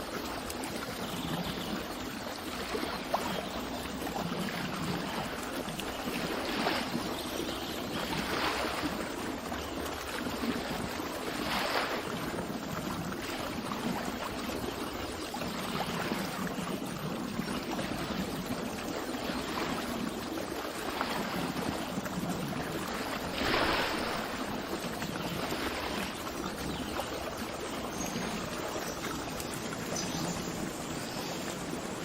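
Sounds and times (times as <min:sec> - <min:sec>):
water rushing and lapping: 0:00.0 - 0:32.0.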